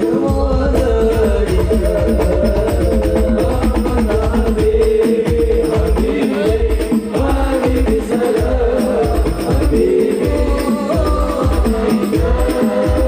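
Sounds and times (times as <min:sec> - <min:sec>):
frame drums: 0:00.0 - 0:13.0
low drum beating: 0:00.0 - 0:13.0
men singing devotional song: 0:00.0 - 0:13.0.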